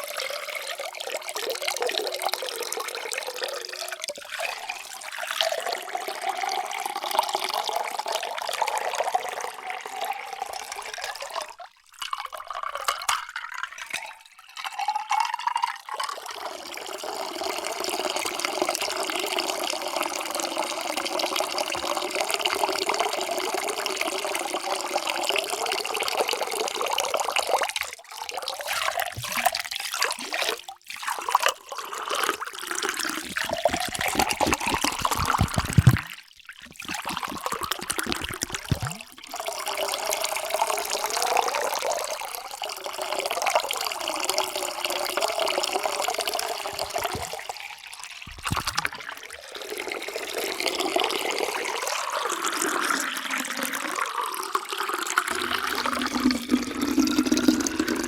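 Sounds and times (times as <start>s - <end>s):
water pouring into vessel: 0.0s - 58.0s.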